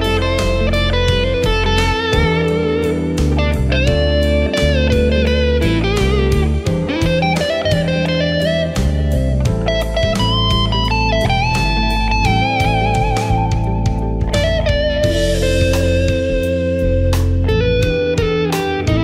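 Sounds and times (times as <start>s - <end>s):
bass and drums backing track: 0.0s - 19.0s
electric guitar lead lines: 0.0s - 19.0s.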